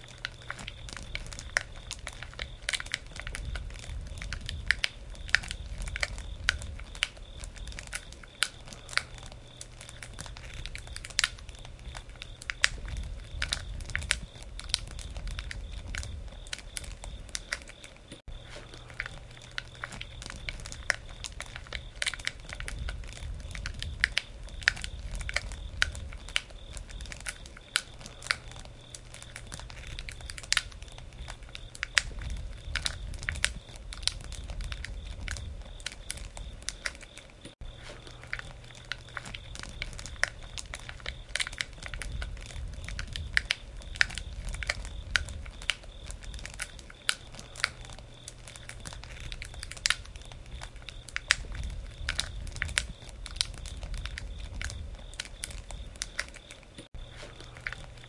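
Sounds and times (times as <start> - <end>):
campfire crackling and popping: 0.0 - 58.0
low rumble of burning fire: 0.0 - 58.0.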